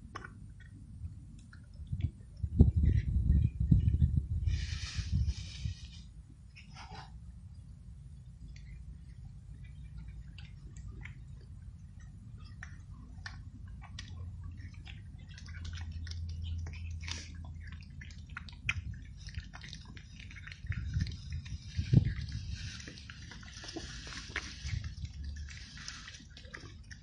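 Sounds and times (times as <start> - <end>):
cats chewing and licking food: 0.0 - 27.0
low rumble: 0.0 - 27.0.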